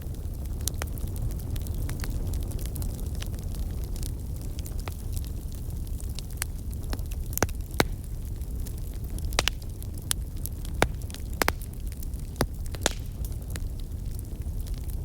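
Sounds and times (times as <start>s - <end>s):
campfire crackling and popping: 0.0s - 15.0s
low wind rumble: 0.0s - 15.0s.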